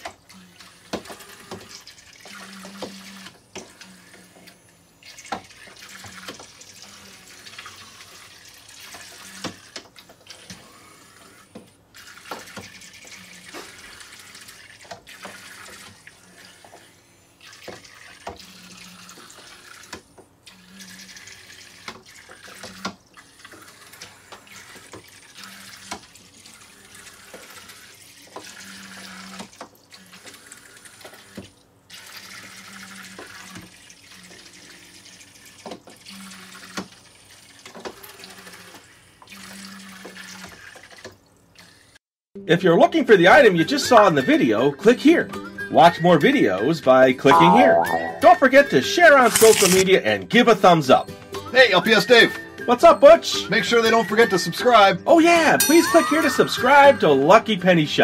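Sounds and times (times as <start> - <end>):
toy boat propellers churning water: 0.0 - 42.0, 43.2 - 51.0, 51.6 - 58.0.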